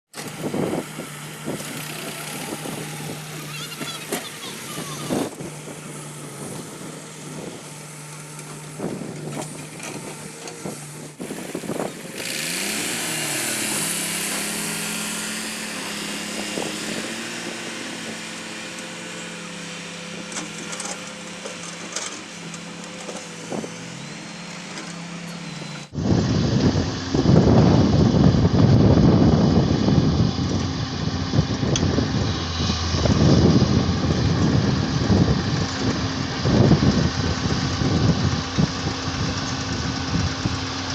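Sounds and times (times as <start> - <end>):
excavator diesel engine running: 0.1 - 40.9.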